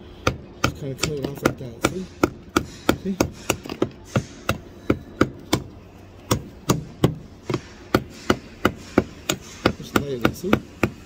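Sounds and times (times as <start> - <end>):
hammer tapping concrete block: 0.2 - 11.0.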